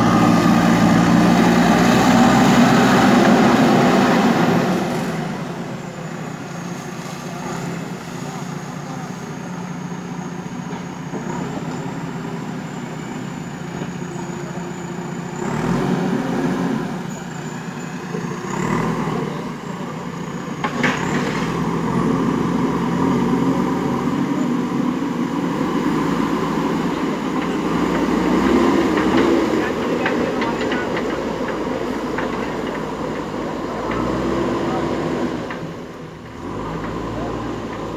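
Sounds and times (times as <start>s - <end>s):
backhoe diesel engine revving: 0.0s - 37.9s.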